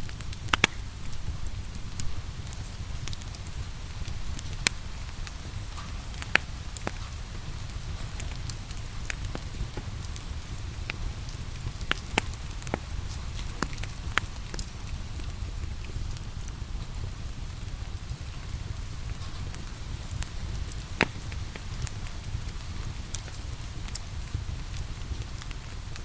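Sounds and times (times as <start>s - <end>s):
rain hissing: 0.0s - 26.0s
wood fire crackling and popping: 0.0s - 26.0s.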